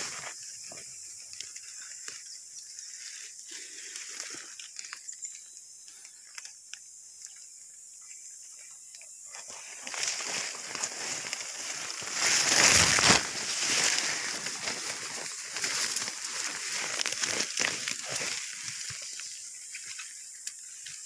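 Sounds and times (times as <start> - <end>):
stems snapping and crackling: 0.0 - 6.8, 8.9 - 21.0
vines and undergrowth rustling: 0.0 - 21.0.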